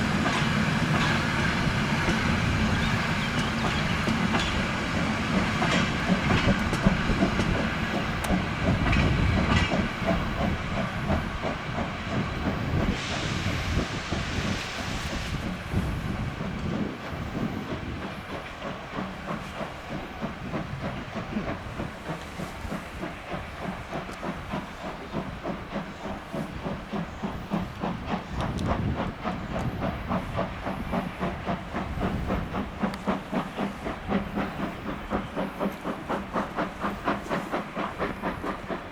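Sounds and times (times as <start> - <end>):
loud steam hiss: 0.0 - 38.9
steam locomotive chuffing: 0.0 - 38.9.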